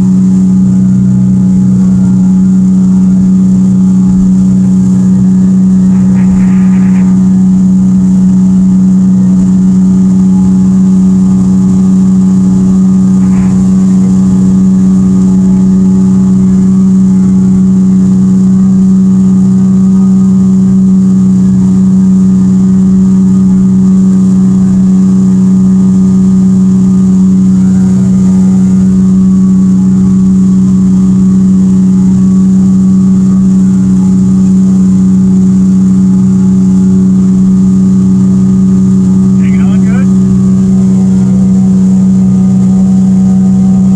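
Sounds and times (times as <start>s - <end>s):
outboard motor droning: 0.0s - 43.9s.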